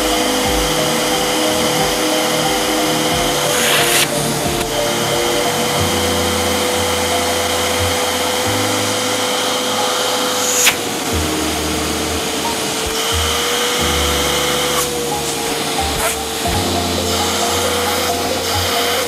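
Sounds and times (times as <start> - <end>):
vacuum cleaner whining: 0.0 - 19.0.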